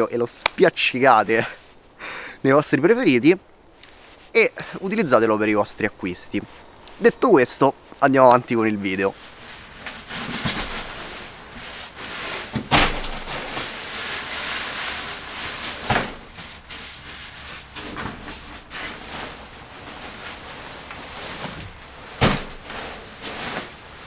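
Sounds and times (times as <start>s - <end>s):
sleeping bag rustling: 3.4s - 24.0s.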